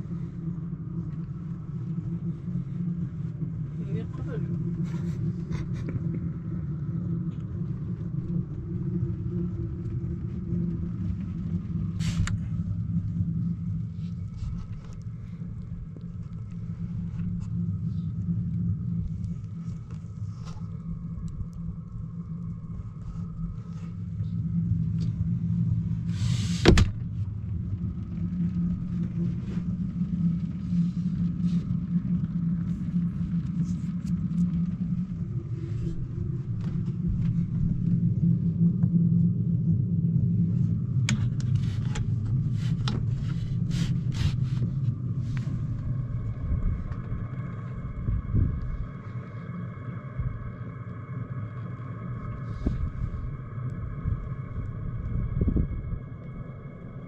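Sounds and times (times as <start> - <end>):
engine rumble: 0.0 - 57.0.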